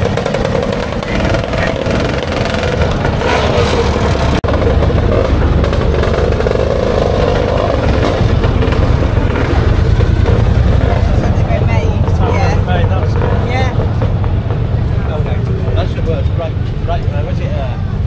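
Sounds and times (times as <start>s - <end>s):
motor scooter engines running: 0.0s - 18.0s.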